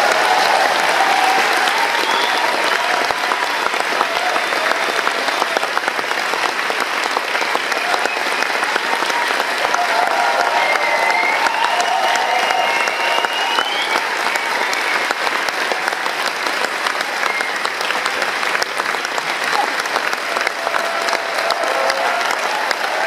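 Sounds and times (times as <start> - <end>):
cheers and whistles: 0.0 - 5.8, 7.0 - 18.4, 19.4 - 23.0
audience clapping: 0.0 - 23.0.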